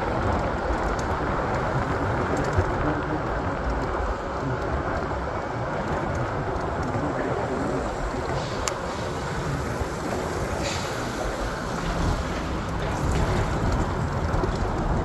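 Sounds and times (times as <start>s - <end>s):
vehicle rumble and rushing: 0.0s - 15.0s.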